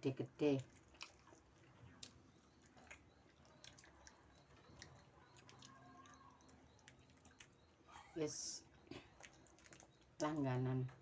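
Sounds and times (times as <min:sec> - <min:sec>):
person chewing food: 0:00.6 - 0:08.1, 0:08.7 - 0:10.2.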